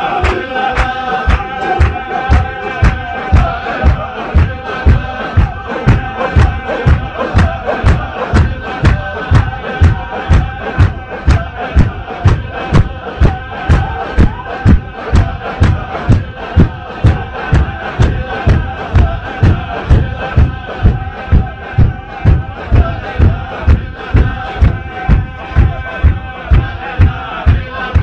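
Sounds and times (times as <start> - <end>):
crowd chanting: 0.0 - 28.0
heavy beats: 0.0 - 28.0.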